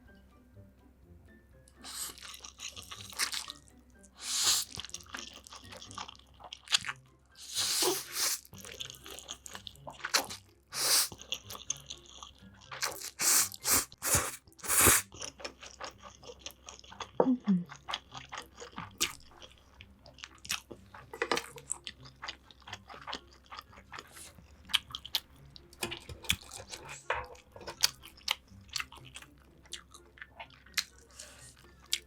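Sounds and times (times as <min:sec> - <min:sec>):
faint background music: 0:00.0 - 0:32.0
crunchy bites and chewing: 0:01.8 - 0:32.0.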